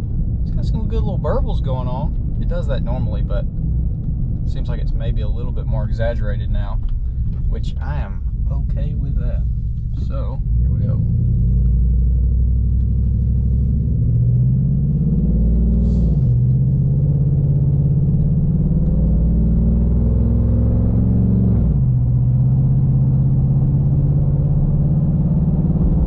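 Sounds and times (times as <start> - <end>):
truck engine accelerating: 0.0 - 26.0.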